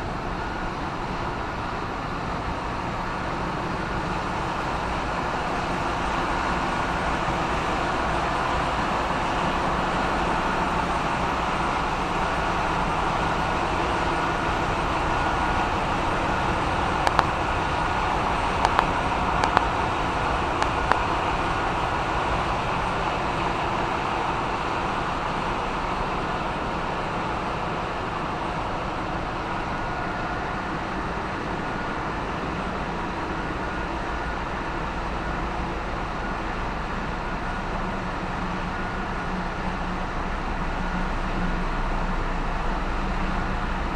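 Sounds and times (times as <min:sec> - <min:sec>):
engine room machinery drone: 0:00.0 - 0:43.9.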